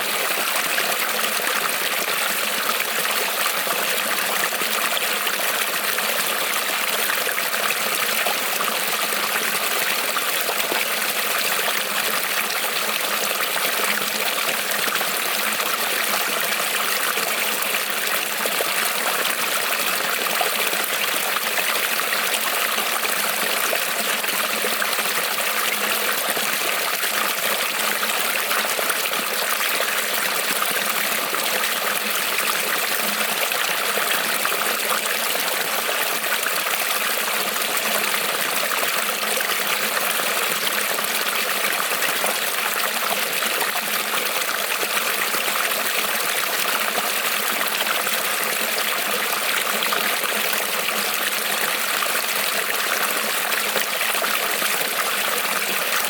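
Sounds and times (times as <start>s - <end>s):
creek trickling over stones: 0.0s - 56.0s.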